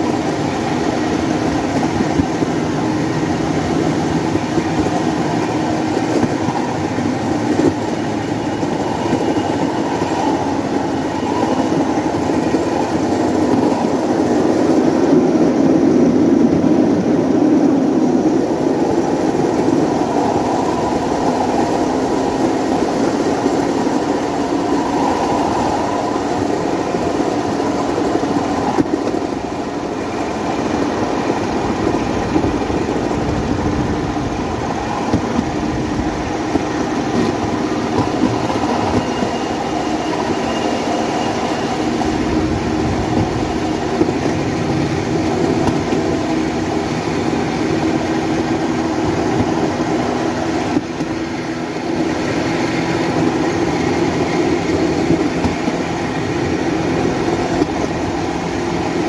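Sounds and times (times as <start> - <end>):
rollers rumbling on rails: 0.0 - 59.0.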